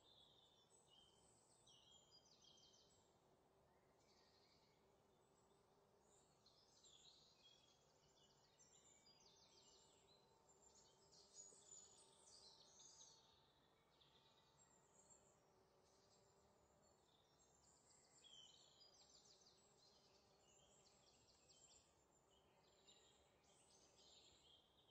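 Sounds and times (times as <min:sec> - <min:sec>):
faint bird chirps: 0:00.0 - 0:24.9.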